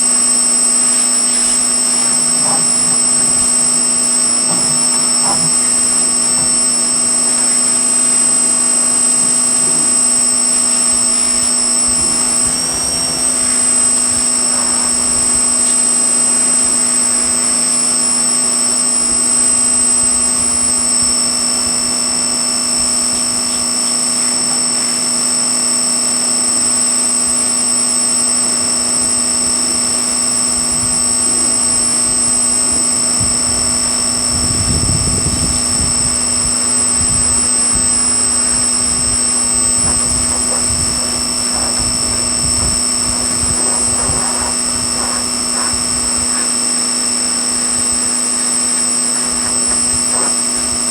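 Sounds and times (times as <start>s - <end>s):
pressure washer running: 0.0s - 50.9s.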